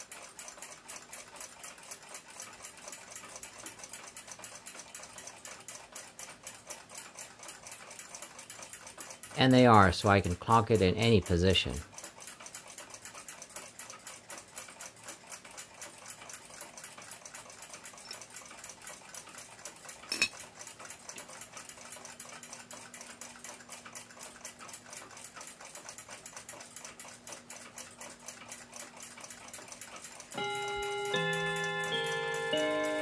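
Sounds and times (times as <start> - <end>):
clock ticking fast: 0.0 - 19.9, 20.9 - 33.0.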